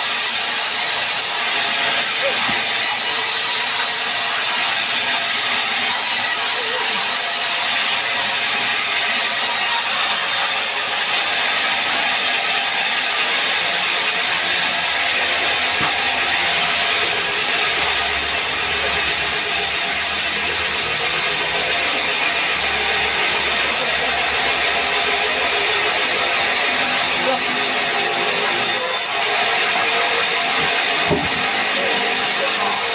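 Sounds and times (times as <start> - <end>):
band sawmill running: 0.0 - 32.9.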